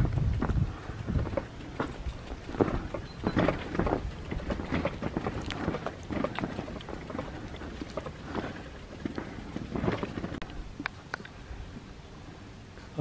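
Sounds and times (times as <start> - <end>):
wind rumbling on microphone: 0.0 - 12.4.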